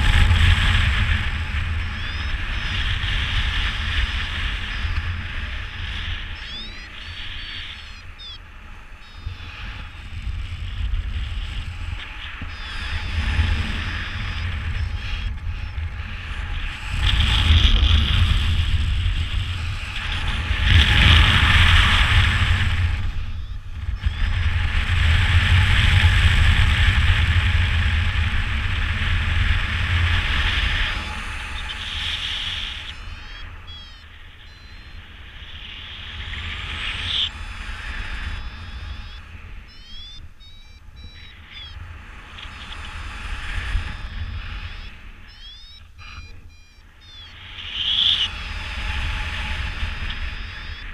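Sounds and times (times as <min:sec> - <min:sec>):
wind buffeting microphone: 0:00.0 - 0:46.6.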